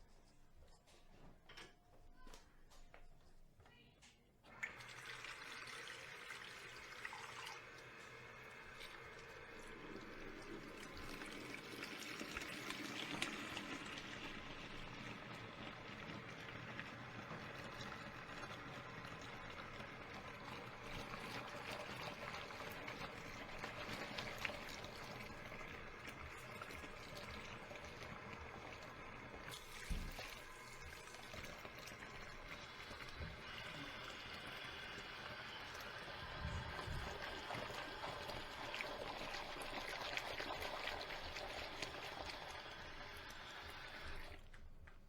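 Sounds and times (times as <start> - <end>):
water running into a sink: 4.5 - 44.7.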